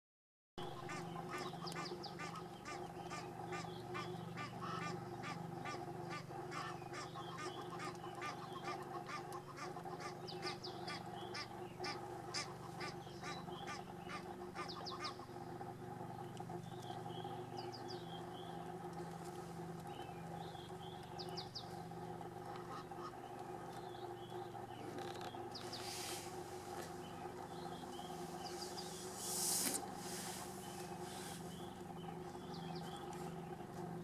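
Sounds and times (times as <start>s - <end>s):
bird calling: 0.6s - 34.0s
steady low hum: 0.6s - 34.0s.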